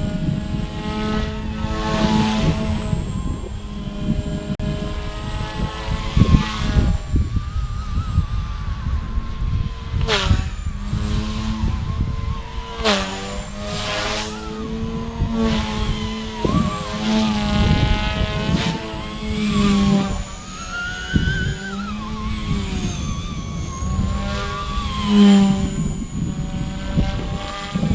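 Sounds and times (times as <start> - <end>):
rc helicopter motor whining: 0.0 - 27.9.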